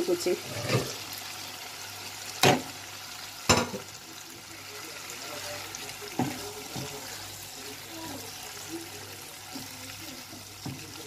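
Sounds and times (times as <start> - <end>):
food sizzling in oil: 0.0 - 11.0
spatula stirring in pan: 0.1 - 11.0.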